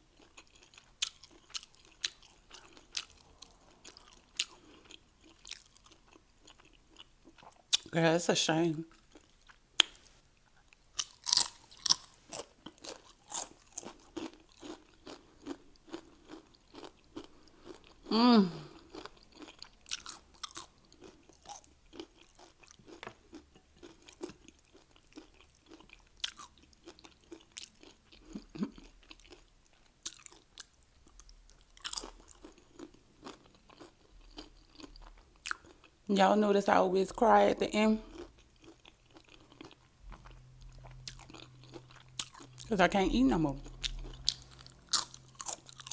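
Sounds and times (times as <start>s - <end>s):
crunching and chewing chips: 0.0s - 7.9s, 8.9s - 36.1s, 38.0s - 45.9s.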